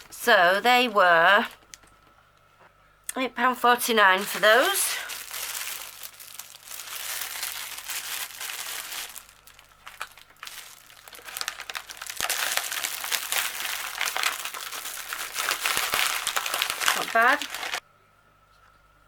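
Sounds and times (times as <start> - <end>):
plastic packaging crinkling: 0.0 - 2.1, 4.0 - 17.8.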